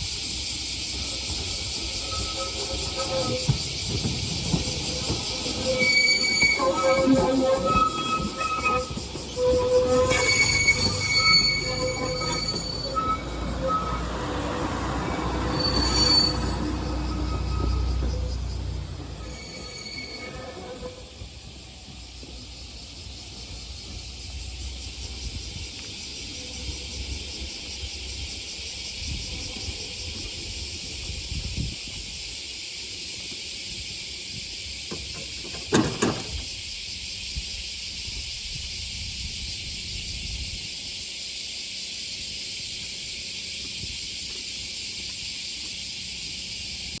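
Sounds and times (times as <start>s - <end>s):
passing train rumble: 0.0s - 47.0s.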